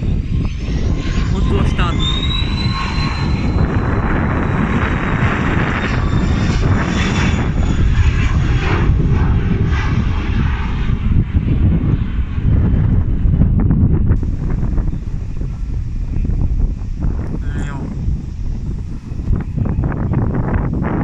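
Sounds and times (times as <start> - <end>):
jet engine rumble and whine: 0.0 - 21.0.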